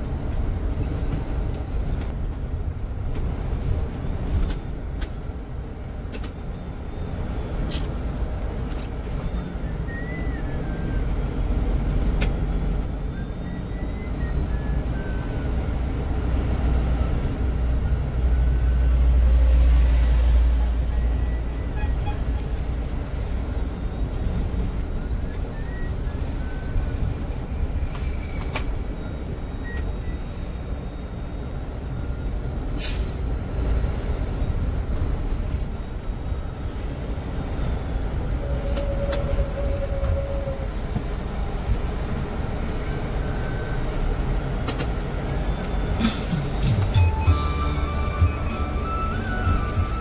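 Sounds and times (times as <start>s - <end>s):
bus engine rumble: 0.0s - 50.0s
road noise: 0.0s - 50.0s.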